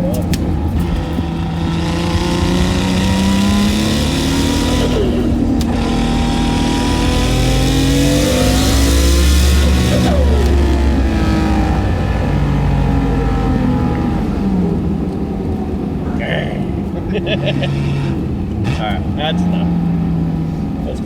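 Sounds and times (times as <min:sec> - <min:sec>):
car engine accelerating hard: 0:00.0 - 0:21.0.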